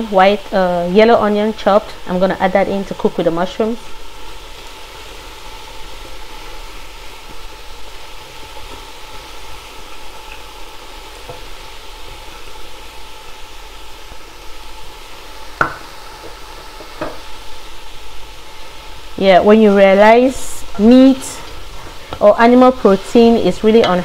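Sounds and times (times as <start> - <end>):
vegetables sizzling in a pot: 0.0 - 24.0.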